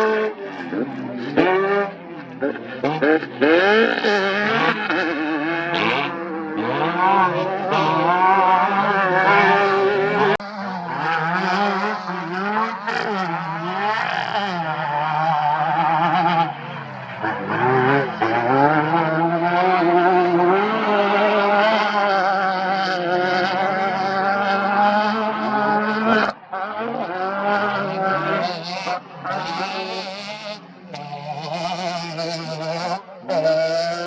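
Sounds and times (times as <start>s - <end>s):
race vehicle engine revving: 0.0s - 34.0s.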